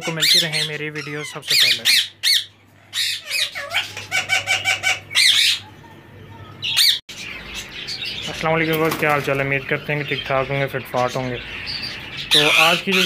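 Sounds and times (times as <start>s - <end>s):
parakeet squawking: 0.0s - 13.0s.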